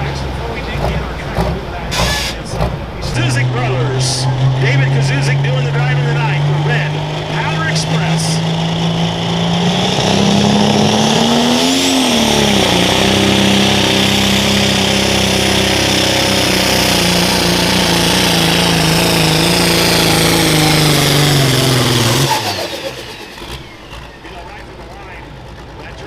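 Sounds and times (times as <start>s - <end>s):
diesel tractor engine at full throttle: 0.0s - 26.0s.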